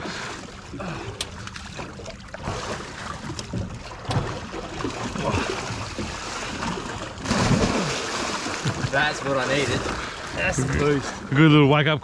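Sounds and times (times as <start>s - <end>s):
water sloshing and splashing: 0.0s - 11.8s.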